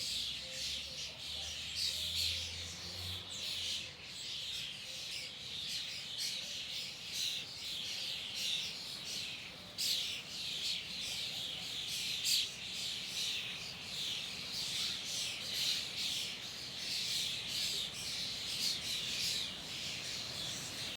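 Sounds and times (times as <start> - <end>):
chorus of birds chirping: 0.0 - 20.9.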